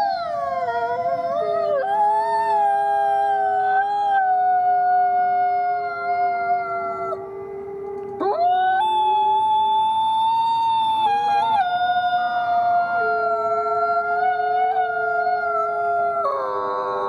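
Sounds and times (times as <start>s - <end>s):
wolves howling in chorus: 0.0s - 17.0s.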